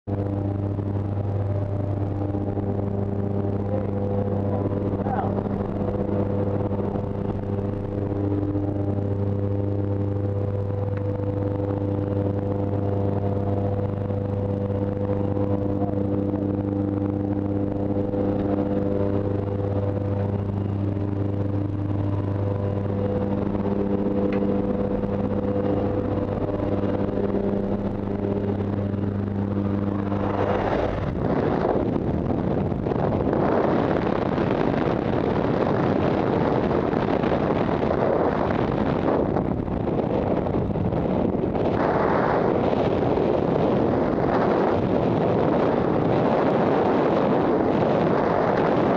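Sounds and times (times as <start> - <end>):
airplane engines droning: 0.1 - 48.9
loud rushing wind: 0.1 - 48.9.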